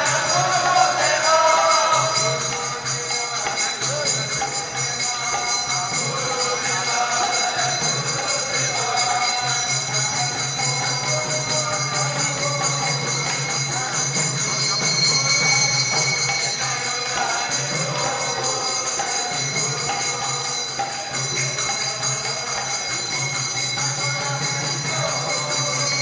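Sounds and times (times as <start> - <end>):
music: 0.0 - 26.0
temple bells ringing: 0.0 - 26.0.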